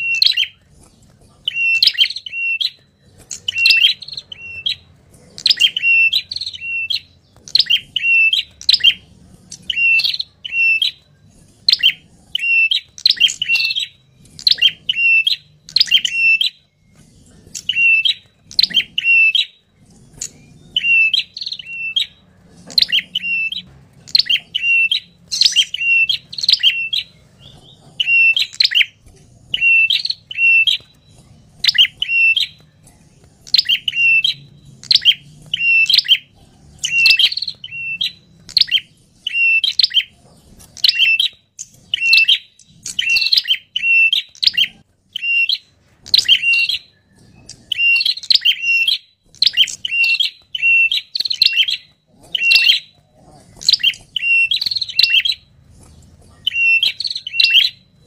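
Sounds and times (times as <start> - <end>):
bird chirping sharply: 0.0 - 0.7, 1.4 - 32.8, 33.4 - 40.2, 40.8 - 53.0, 53.6 - 55.5, 56.4 - 58.0.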